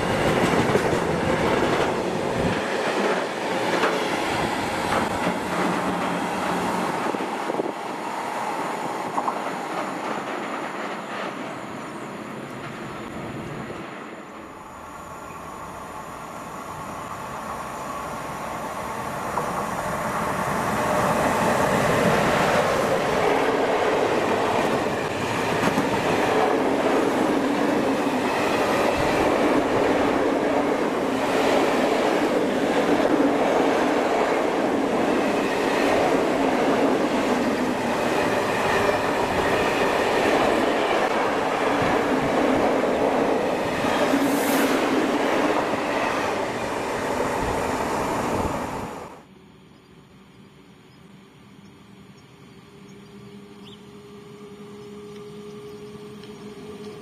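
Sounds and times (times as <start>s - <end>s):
train wheels on rails: 0.0s - 49.3s, 52.7s - 57.0s.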